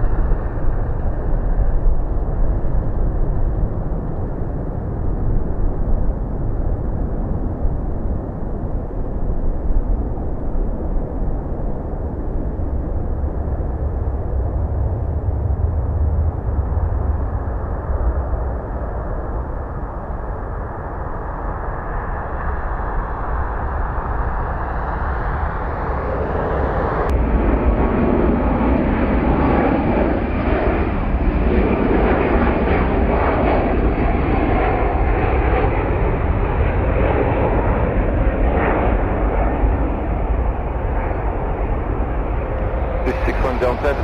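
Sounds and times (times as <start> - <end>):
jet airliner passing: 0.0 - 44.0.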